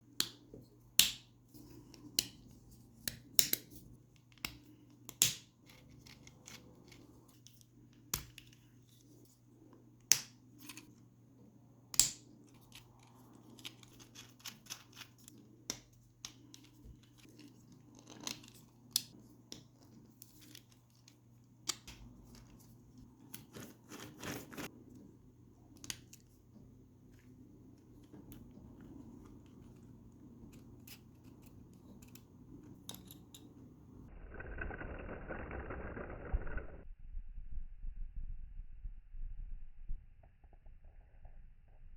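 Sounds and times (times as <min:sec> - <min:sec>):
faint low hum: 0:00.0 - 0:41.9.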